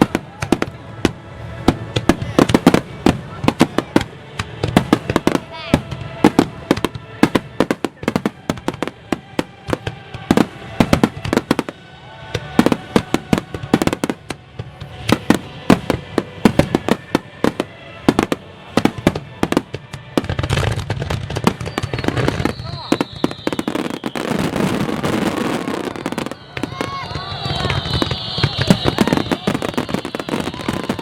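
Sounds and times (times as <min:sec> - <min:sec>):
fireworks bangs and booms: 0:00.0 - 0:31.0.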